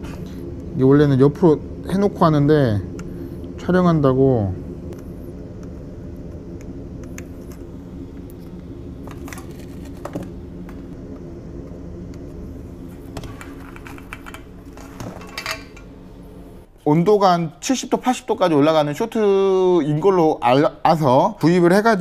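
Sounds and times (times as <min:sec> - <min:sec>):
electric fan humming: 0:00.0 - 0:22.0.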